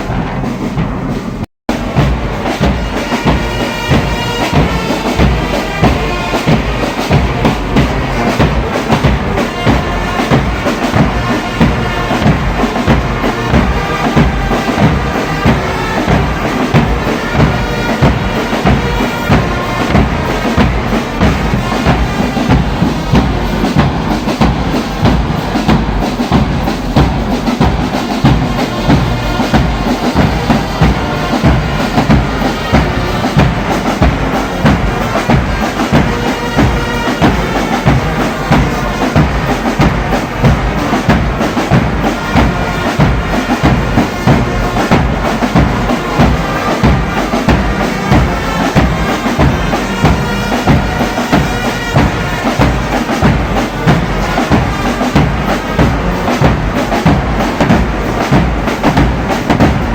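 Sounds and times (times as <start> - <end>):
bass drum beat: 0.0 - 59.9
brass band playing: 0.0 - 59.9.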